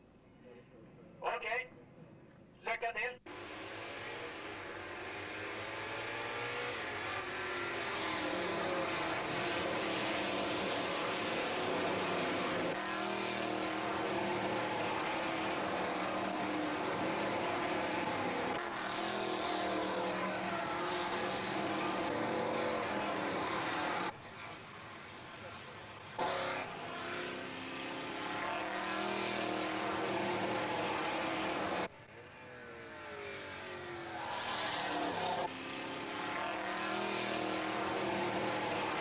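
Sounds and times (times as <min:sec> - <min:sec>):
racing car engines revving: 0:03.3 - 0:39.0.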